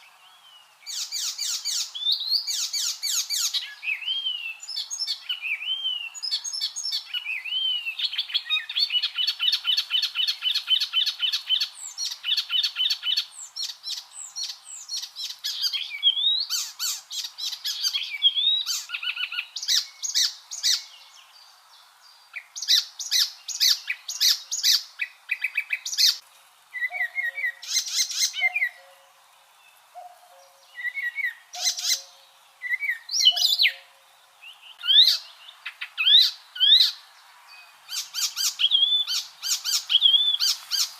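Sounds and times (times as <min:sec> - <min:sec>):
warbler singing: 0:00.0 - 0:26.2, 0:26.8 - 0:40.9.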